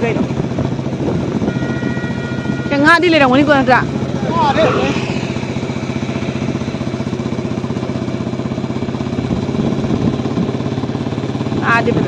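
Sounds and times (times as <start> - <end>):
small engine chugging: 0.2 - 12.0.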